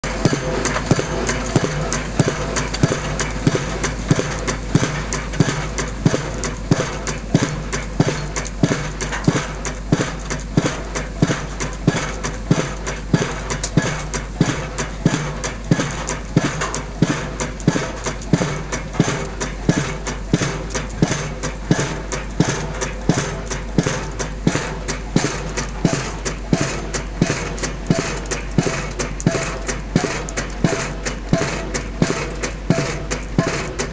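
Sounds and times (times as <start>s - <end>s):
rig engine running: 0.0s - 33.9s
pile hammer striking concrete: 0.1s - 33.9s.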